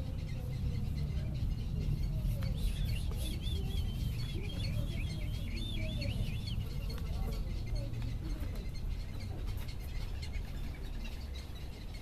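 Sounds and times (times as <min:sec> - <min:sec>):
small birds twittering: 0:00.0 - 0:12.0.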